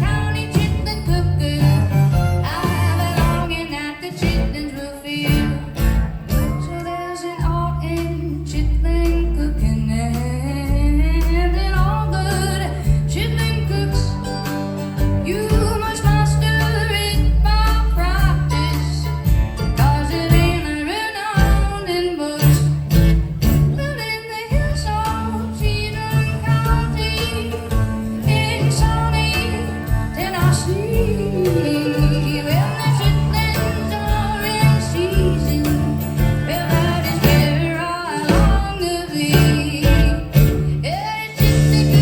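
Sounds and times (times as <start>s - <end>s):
steady bass line: 0.0s - 4.7s, 7.4s - 20.7s, 22.4s - 42.0s
woman singing: 0.0s - 23.0s, 23.6s - 42.0s
country band playing: 0.0s - 42.0s.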